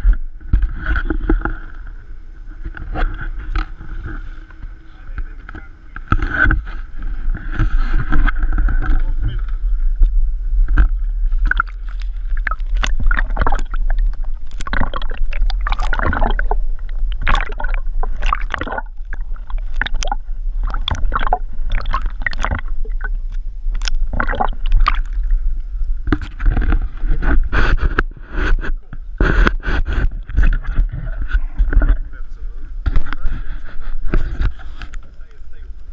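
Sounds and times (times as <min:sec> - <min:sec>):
water splashing and gurgling: 0:00.0 - 0:35.9
wind rumble: 0:00.0 - 0:35.9.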